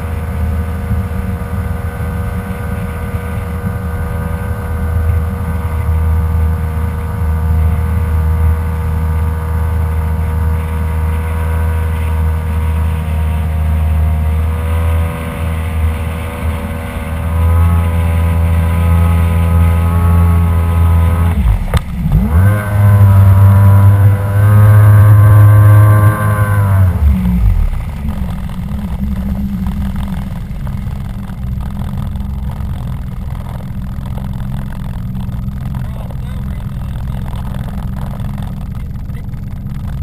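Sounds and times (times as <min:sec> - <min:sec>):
jet ski engine revving: 0:00.0 - 0:40.0.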